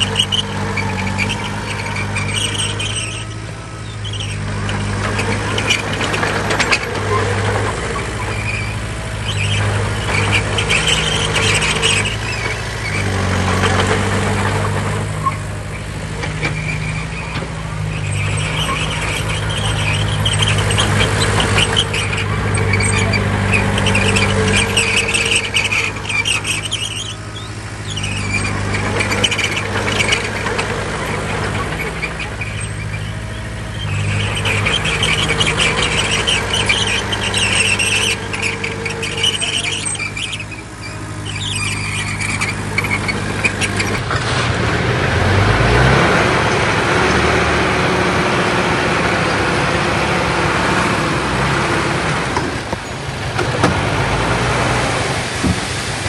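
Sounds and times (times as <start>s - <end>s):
diesel engine droning: 0.0s - 56.0s
steel tracks squealing and clattering: 0.0s - 56.0s.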